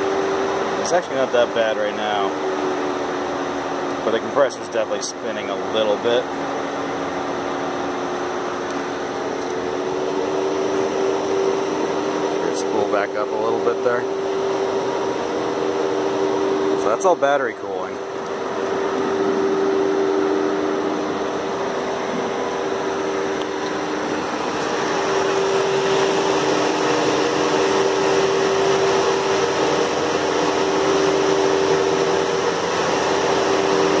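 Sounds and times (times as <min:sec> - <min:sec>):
compressor whine: 0:00.0 - 0:34.0.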